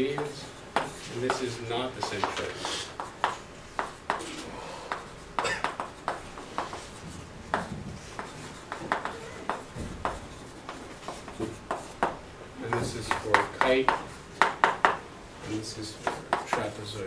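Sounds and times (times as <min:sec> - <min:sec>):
chalk tapping and scratching: 0:00.0 - 0:17.0.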